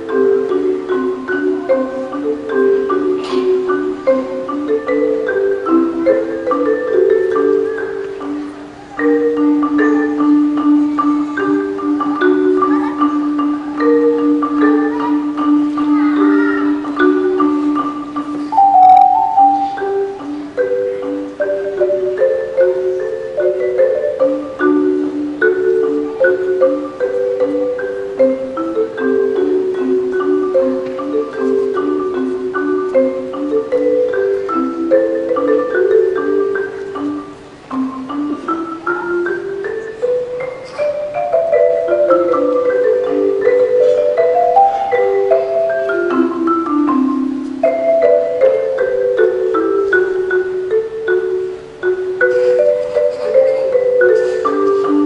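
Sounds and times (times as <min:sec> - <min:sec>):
marimba melody: 0:00.0 - 0:55.0.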